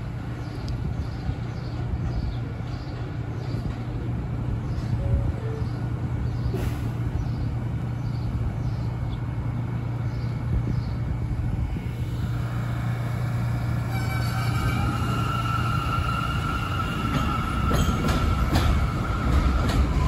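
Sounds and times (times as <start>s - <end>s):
high train whine: 0.0s - 20.0s
train rumbling on steel track: 0.0s - 20.0s.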